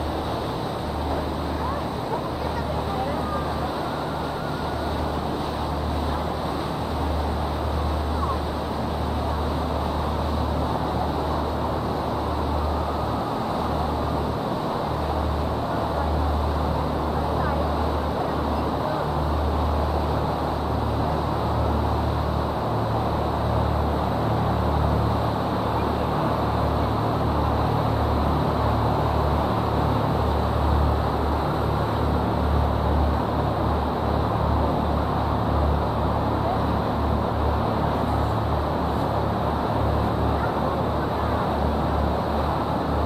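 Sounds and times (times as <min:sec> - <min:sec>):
boat engine running: 0:00.0 - 0:43.0.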